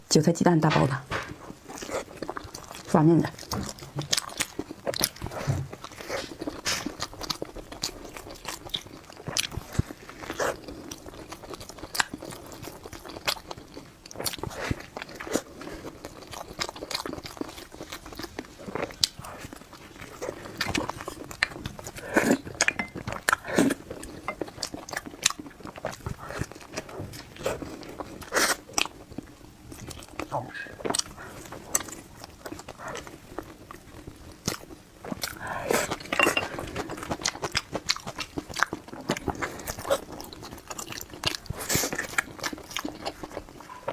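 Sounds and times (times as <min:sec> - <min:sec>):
person chewing crunchy food: 0:01.1 - 0:43.9.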